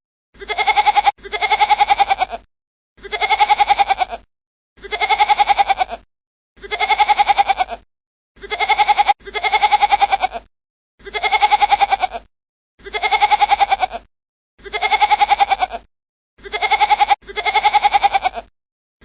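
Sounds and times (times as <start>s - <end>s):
goat bleating: 0.4s - 6.0s, 6.6s - 7.8s, 8.4s - 18.5s.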